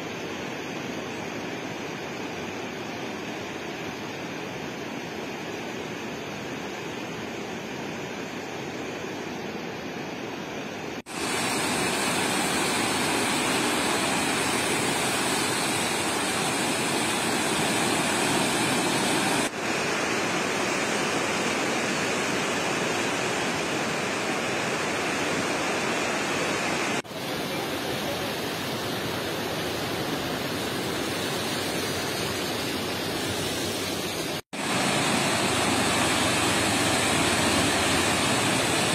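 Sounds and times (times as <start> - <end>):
river rushing in flood: 0.0 - 38.9.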